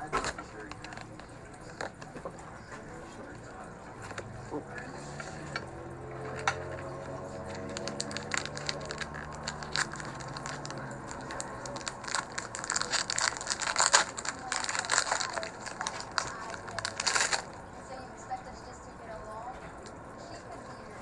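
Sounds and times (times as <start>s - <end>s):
foil wrapper crinkling and tearing: 0.0s - 2.3s, 4.0s - 18.7s
steady low hum: 0.0s - 21.0s.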